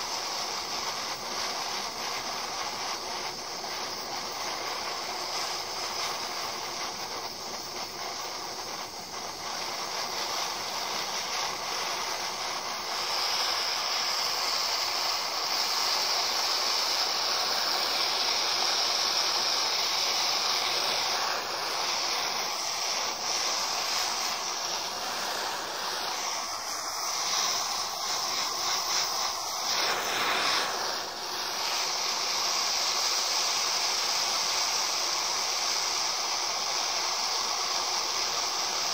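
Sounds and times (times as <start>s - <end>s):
blowtorch flame hissing: 0.0s - 38.9s.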